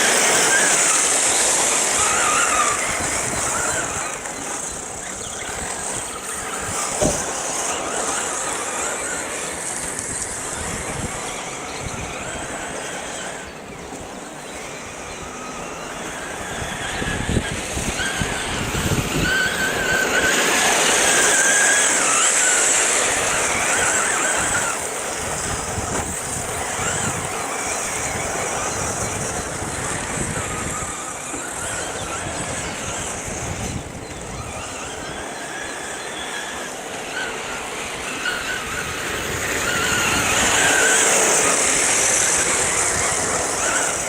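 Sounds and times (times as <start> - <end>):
rc car motor whine: 0.0 - 44.0
tyres hissing on gravel: 0.0 - 44.0.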